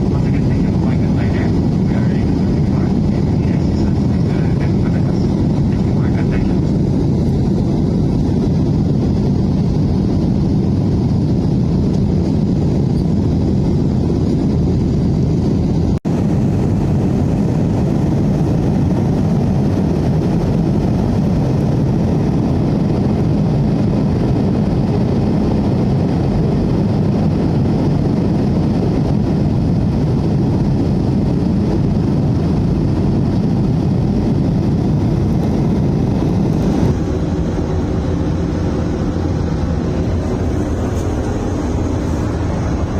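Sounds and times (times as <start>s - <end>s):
jet engines roaring in cabin: 0.0s - 42.9s.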